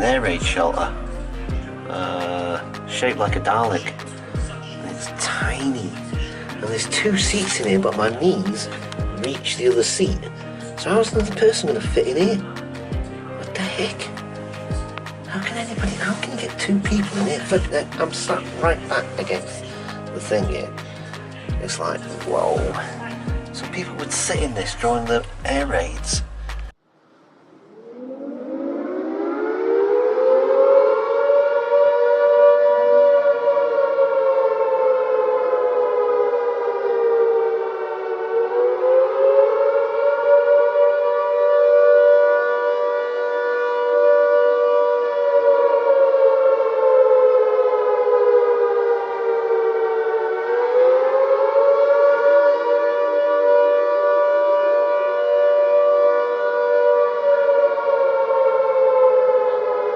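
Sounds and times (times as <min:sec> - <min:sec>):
air-raid siren wailing: 0:00.0 - 0:26.4, 0:27.3 - 0:59.9.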